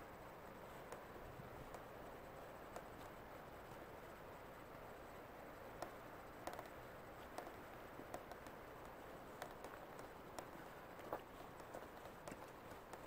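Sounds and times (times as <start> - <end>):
faint camcorder hiss: 0.0 - 13.0
soft clicks: 0.2 - 3.9, 5.6 - 13.0.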